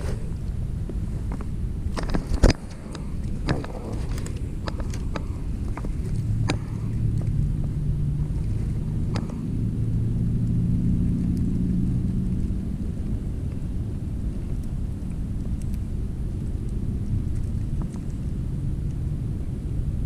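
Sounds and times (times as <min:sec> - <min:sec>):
boat motor droning: 0:00.0 - 0:20.0
wind rumble on microphone: 0:00.0 - 0:20.0.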